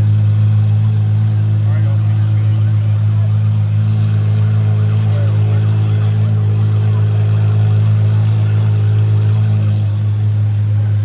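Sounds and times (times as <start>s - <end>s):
car engine idling: 0.0s - 11.0s
faint crowd chatter: 0.0s - 11.0s.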